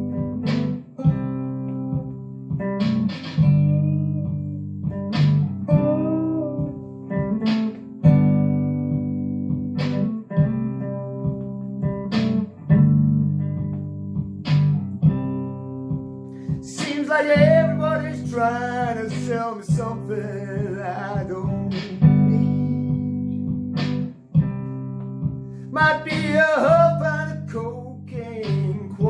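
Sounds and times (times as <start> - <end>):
guitar chords strummed: 0.0 - 29.0.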